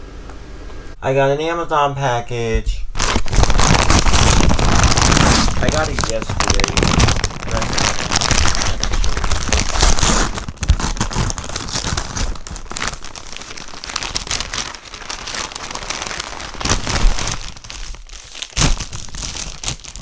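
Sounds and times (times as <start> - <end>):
packaging crinkling and tearing: 3.0 - 20.0.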